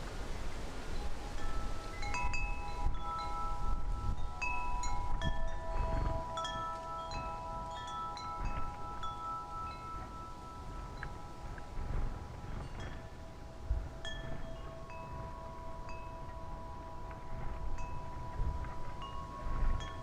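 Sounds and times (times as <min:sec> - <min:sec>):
wind rumble on microphone: 0:00.0 - 0:20.0
wind chimes ringing: 0:00.8 - 0:20.0.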